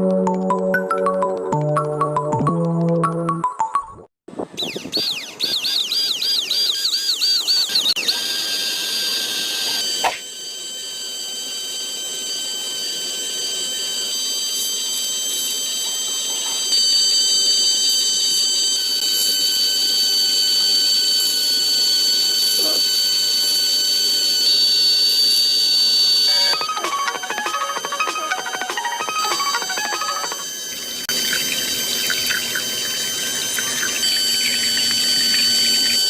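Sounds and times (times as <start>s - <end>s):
steady high whine: 4.3s - 36.0s
warbling alarm tone: 4.6s - 36.0s.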